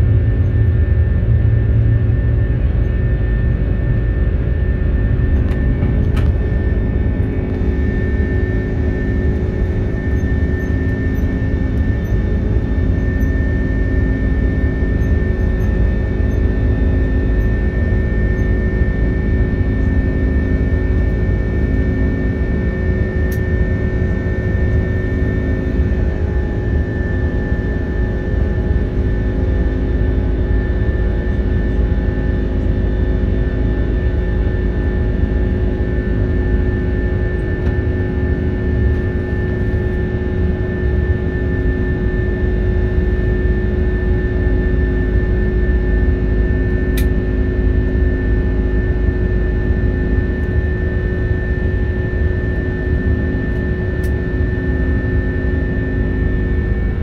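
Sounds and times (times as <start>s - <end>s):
high engine whine: 0.0s - 57.0s
jet engines rumbling in cabin: 0.0s - 57.0s.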